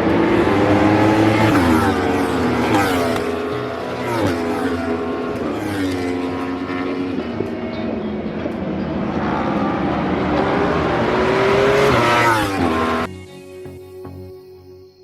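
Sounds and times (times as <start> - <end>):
racing motorcycle engines passing: 0.0 - 13.1.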